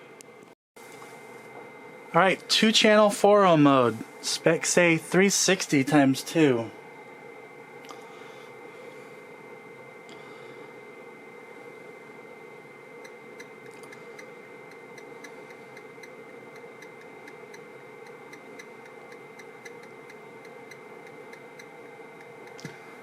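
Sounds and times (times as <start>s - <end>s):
steady whirring noise: 0.0s - 23.0s.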